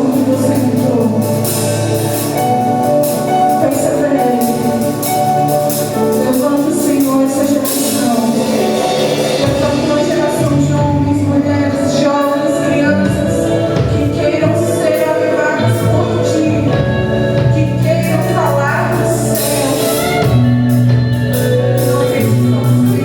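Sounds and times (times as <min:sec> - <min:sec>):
band playing worship song: 0:00.0 - 0:23.0.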